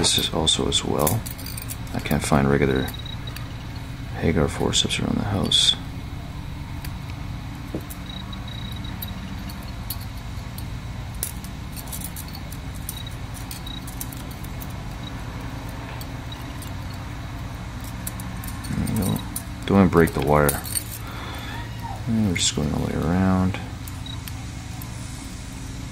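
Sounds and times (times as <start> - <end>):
metallic clicks of forceps and wire: 0.0 - 4.1, 6.6 - 25.4
steady low hum: 0.0 - 25.9.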